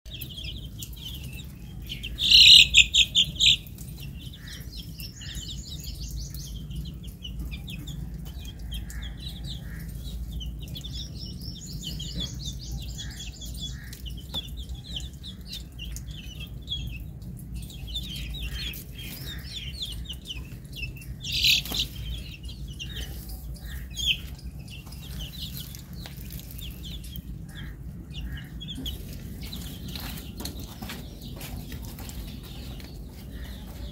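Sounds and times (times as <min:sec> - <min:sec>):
chicks peeping: 0:00.1 - 0:33.9
steady low rumble: 0:00.1 - 0:33.9.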